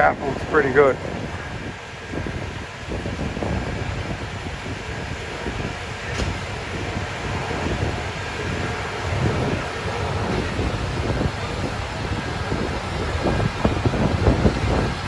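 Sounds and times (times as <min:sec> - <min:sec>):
city street noise: 0:00.0 - 0:15.0
high wind: 0:00.0 - 0:15.0.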